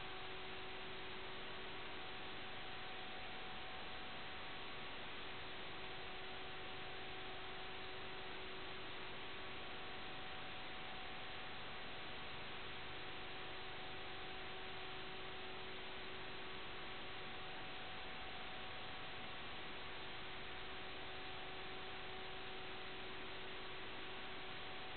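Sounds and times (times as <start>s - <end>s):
faint hum tones: 0.0s - 24.9s.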